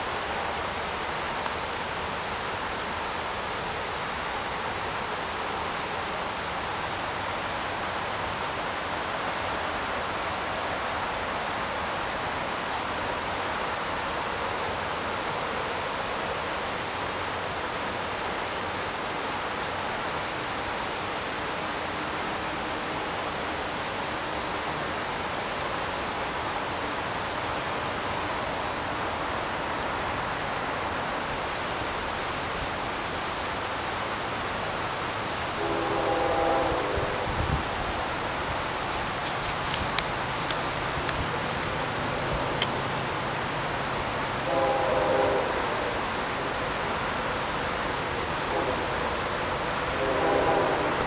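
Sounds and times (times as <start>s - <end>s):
creek water burbling over stones: 0.0s - 50.7s.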